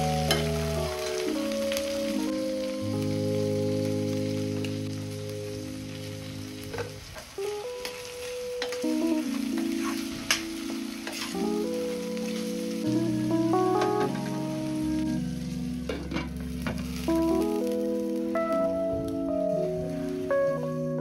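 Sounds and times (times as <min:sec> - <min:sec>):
soft background music: 0:00.0 - 0:21.0
vegetables sizzling in a pan: 0:00.0 - 0:21.0.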